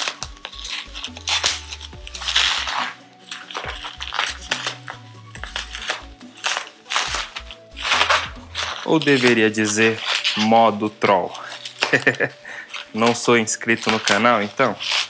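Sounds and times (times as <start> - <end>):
bubble wrap crinkling: 0.0 - 15.0
scissors cutting bubble wrap: 0.0 - 15.0
soft background music: 0.0 - 15.0.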